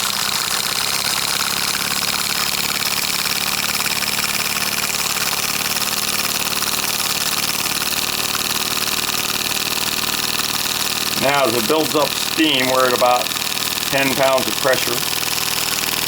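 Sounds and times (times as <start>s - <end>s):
model steam engine exhaust beat: 0.0s - 16.0s
steam hissing: 0.0s - 16.0s.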